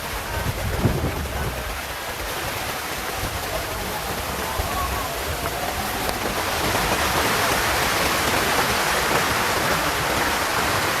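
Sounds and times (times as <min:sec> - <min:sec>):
heavy water falling on a tent: 0:00.0 - 0:11.0.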